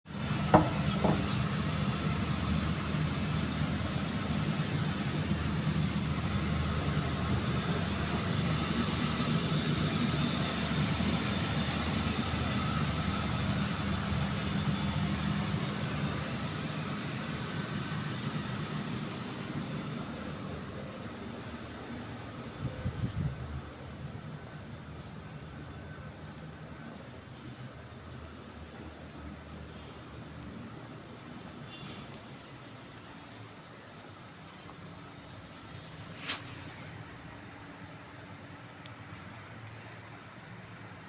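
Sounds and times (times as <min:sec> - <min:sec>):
heat pump humming: 0:00.1 - 0:39.5.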